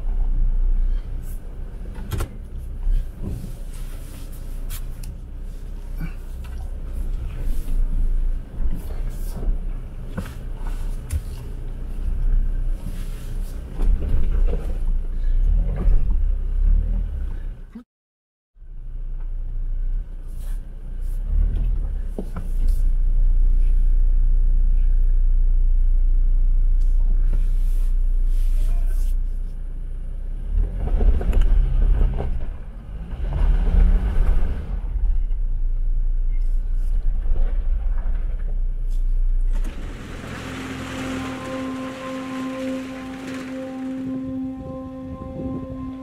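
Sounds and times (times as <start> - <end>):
engine rumbling and revving: 0.0 - 17.8, 18.6 - 28.6, 29.2 - 46.0.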